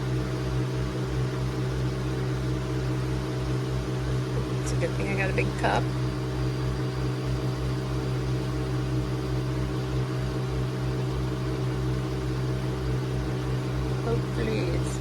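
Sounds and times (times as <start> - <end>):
coffee machine motor and pump hum: 0.0 - 15.0.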